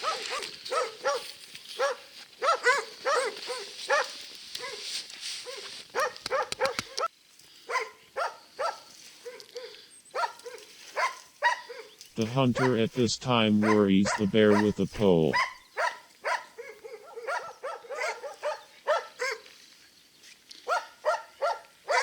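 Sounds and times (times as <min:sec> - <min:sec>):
dog barking: 0:00.0 - 0:07.1, 0:07.7 - 0:12.0, 0:12.6 - 0:12.8, 0:13.6 - 0:14.7, 0:15.3 - 0:19.4, 0:20.7 - 0:22.0.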